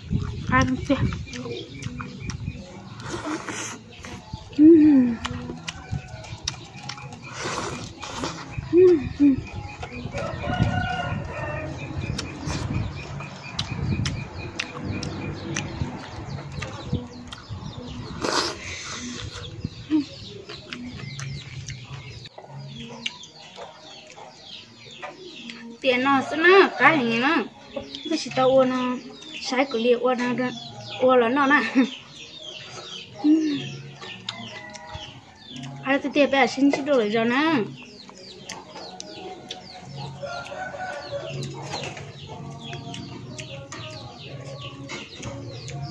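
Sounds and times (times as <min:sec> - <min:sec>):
chickens clucking: 0:00.0 - 0:45.9
small birds chirping: 0:00.0 - 0:45.9.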